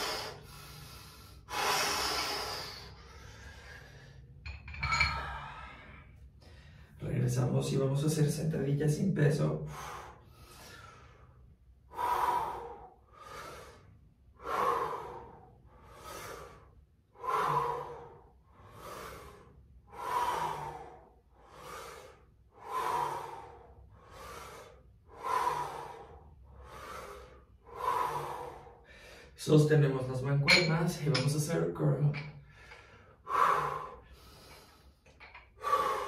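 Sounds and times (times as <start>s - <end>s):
person breathing hard: 0.0s - 7.0s, 9.6s - 29.4s, 32.2s - 36.0s.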